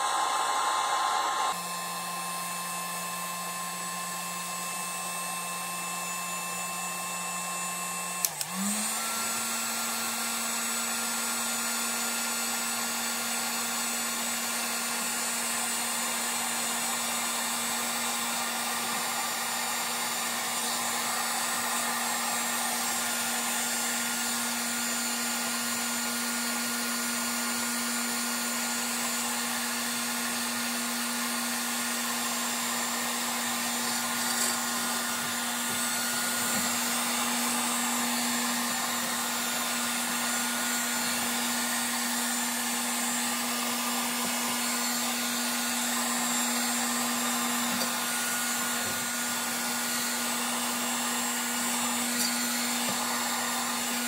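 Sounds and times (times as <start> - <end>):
heat gun blowing air: 0.0 - 54.0.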